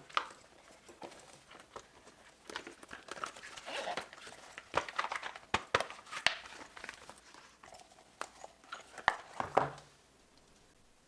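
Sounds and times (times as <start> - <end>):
plastic crinkling: 0.0 - 9.9.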